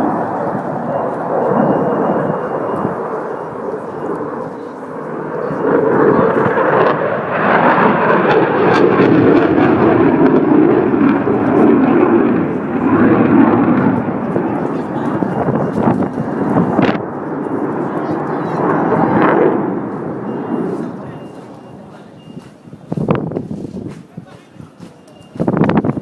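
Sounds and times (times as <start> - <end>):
aircraft engine rushing: 0.0 - 26.0.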